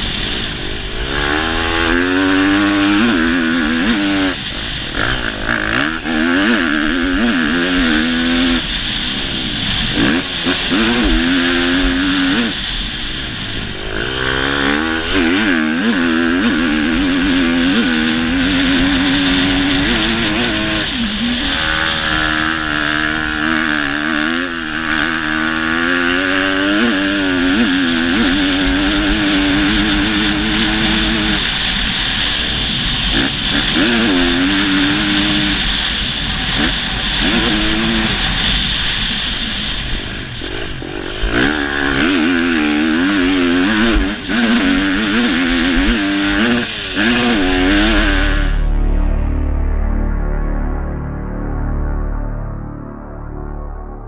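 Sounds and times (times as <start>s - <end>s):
motorcycle engine revving: 0.0s - 52.2s.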